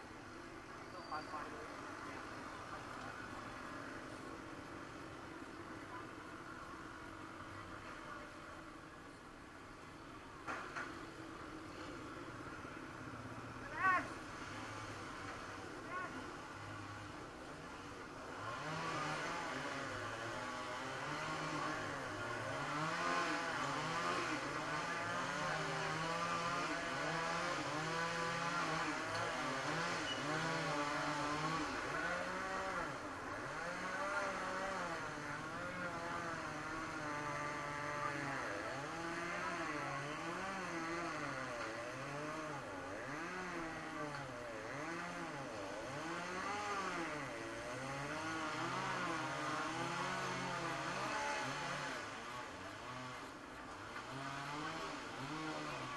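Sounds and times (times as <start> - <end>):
small engines revving: 10.4 - 55.9.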